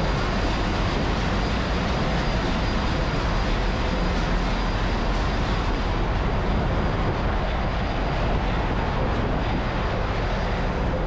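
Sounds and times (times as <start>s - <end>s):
engine-room machinery drone: 0.0s - 11.0s.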